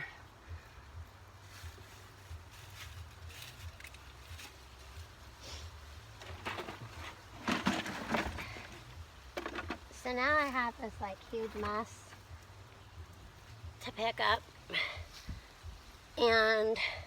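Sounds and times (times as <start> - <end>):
hands rustling among plants: 0.0 - 16.8.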